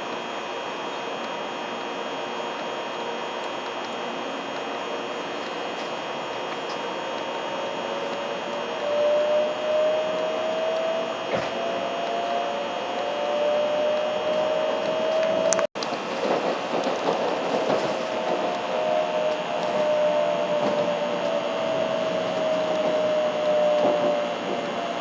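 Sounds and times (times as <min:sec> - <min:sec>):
train rushing with motor whine: 0:00.0 - 0:25.0.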